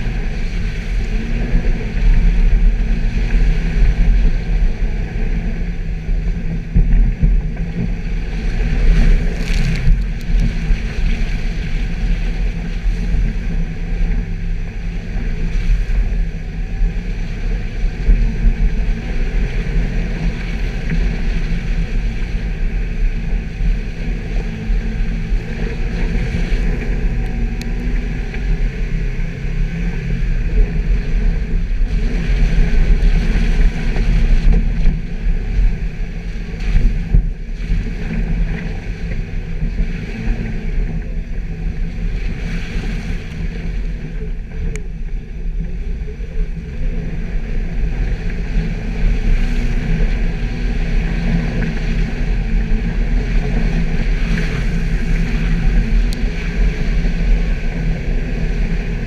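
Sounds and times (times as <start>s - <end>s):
car engine droning off-road: 0.0s - 59.0s.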